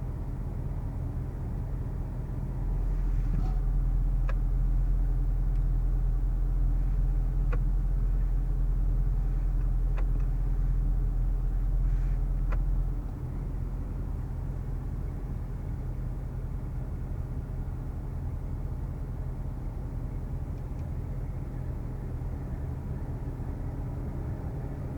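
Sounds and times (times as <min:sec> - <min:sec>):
car engine drone inside car: 0:00.0 - 0:24.9.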